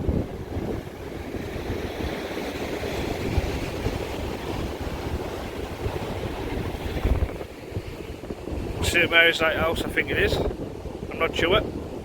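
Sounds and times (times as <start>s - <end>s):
surf washing on shore: 0.0s - 12.0s
wind buffeting microphone: 0.0s - 12.0s.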